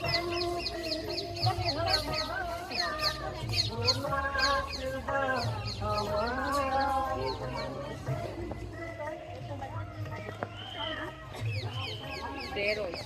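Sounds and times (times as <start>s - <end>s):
birds chirping: 0.0s - 13.0s
crowd chatter: 0.0s - 13.0s.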